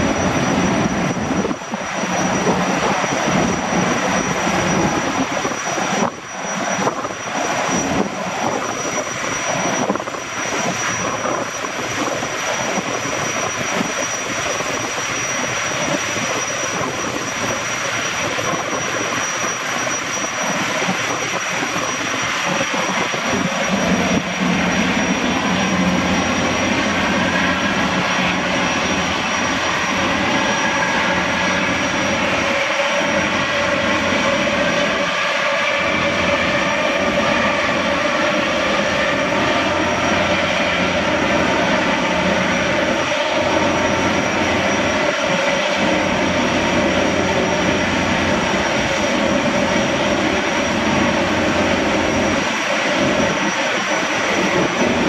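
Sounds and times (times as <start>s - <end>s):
gas turbines whining: 0.0s - 55.0s
rushing water from waterjets: 0.0s - 55.0s.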